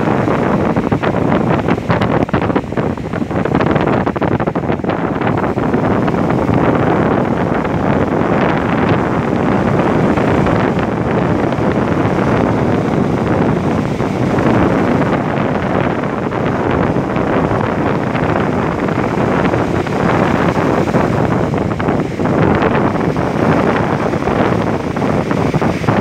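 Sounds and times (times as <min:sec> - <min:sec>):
surf washing on beach: 0:00.0 - 0:26.0
wind blowing across microphone: 0:00.0 - 0:26.0.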